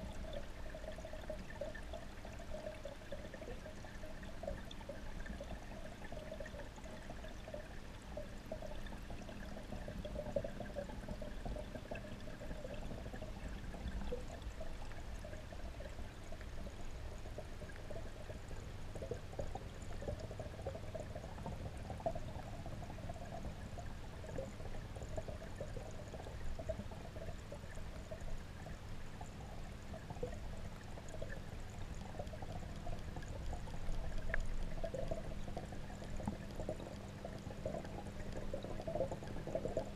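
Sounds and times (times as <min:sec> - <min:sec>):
faint hum: 0:00.0 - 0:39.9
underwater water flow: 0:00.0 - 0:39.9.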